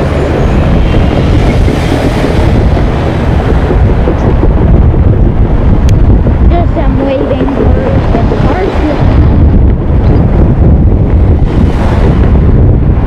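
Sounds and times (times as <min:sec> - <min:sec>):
cars passing: 0:00.0 - 0:13.0
wind buffeting microphone: 0:00.0 - 0:13.0.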